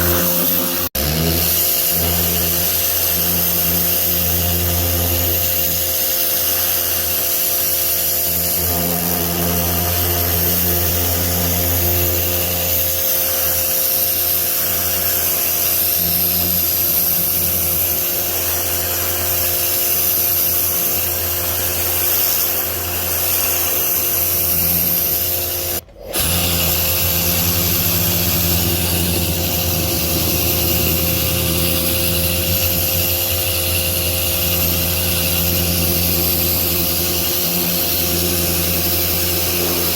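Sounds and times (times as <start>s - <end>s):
pressure washer spraying: 0.0s - 39.9s.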